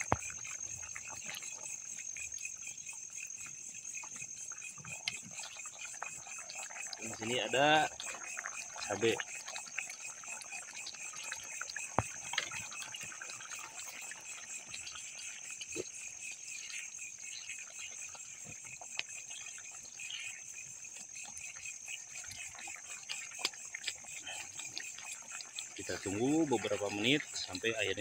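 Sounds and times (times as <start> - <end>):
stew simmering: 0.0 - 28.0.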